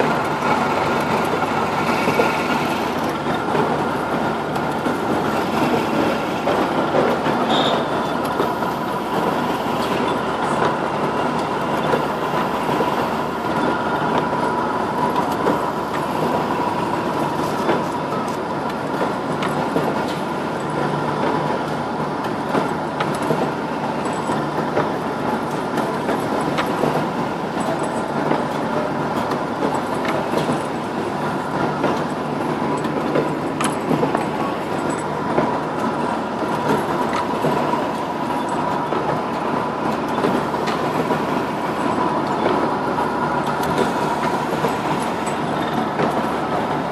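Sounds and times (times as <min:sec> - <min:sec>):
machine rattling and clicking: 0:00.0 - 0:46.9.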